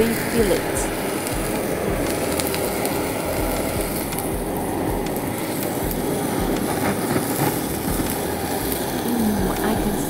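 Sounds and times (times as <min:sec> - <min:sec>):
blowtorch flame rushing: 0:00.0 - 0:10.0.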